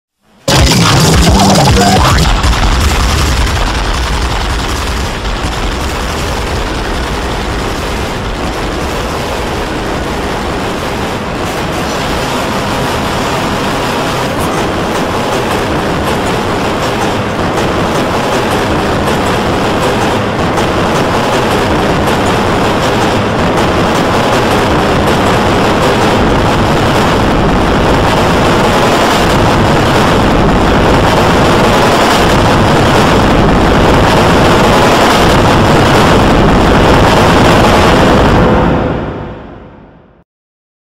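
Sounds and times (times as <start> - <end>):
loud harsh broadband noise: 0.2 - 40.2.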